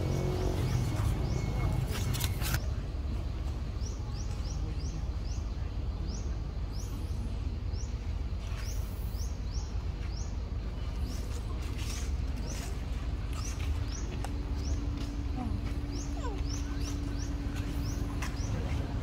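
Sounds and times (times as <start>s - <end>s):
bird chirping: 3.8s - 19.0s.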